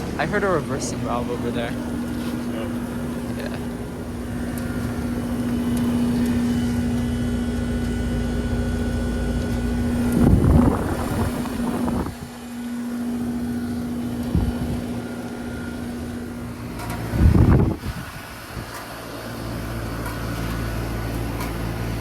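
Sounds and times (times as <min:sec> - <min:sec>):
compressor hum: 0:00.0 - 0:22.0
condenser fans rushing: 0:00.0 - 0:22.0.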